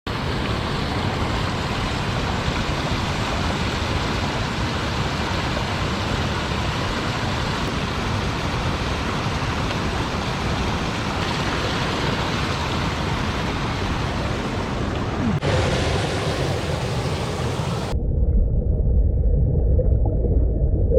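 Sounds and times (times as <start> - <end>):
river water rushing over blocks: 0.1 - 17.9.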